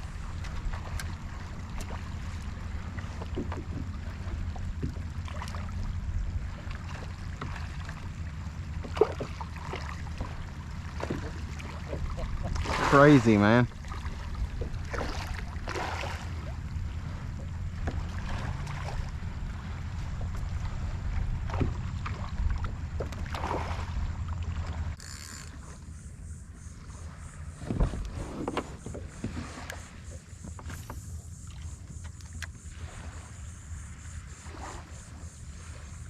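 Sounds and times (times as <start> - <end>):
wind rumble on microphone: 0.0 - 25.0, 25.8 - 36.0
water lapping against kayak hull: 0.0 - 36.0.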